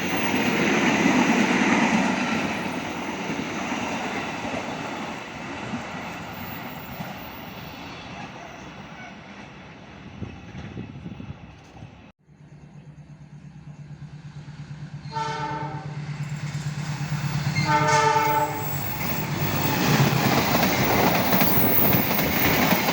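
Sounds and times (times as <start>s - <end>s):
train rumbling on rails: 0.0s - 22.9s.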